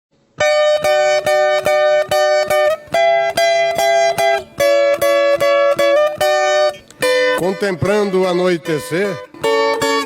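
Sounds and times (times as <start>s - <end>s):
viola plucked melody: 0.4s - 10.0s.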